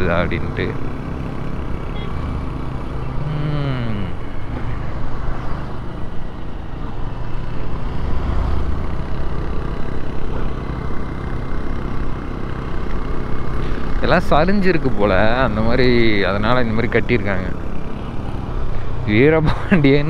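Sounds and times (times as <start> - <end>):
motorcycle engine running: 0.0 - 5.9, 7.4 - 19.8.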